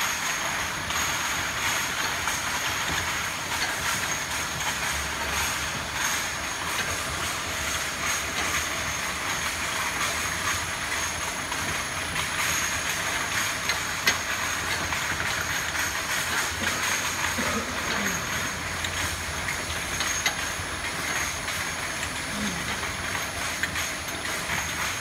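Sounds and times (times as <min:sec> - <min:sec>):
bottle washing machine clattering: 0:00.0 - 0:25.0.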